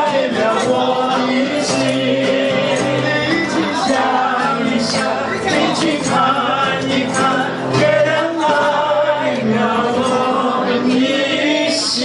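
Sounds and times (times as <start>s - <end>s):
guitar accompaniment: 0.0s - 12.0s
two men singing: 0.0s - 12.0s.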